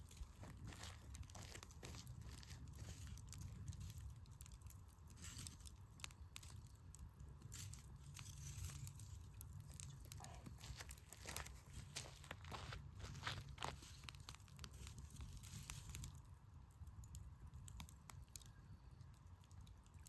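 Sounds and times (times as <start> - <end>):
campfire crackling and popping: 0.0 - 20.0
faint low rumble: 0.0 - 20.0.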